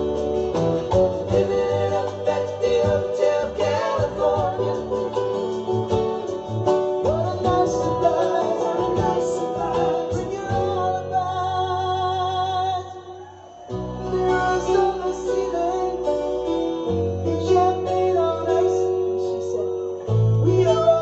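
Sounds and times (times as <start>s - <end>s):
acoustic guitar: 0.0s - 21.0s
person singing: 1.2s - 21.0s.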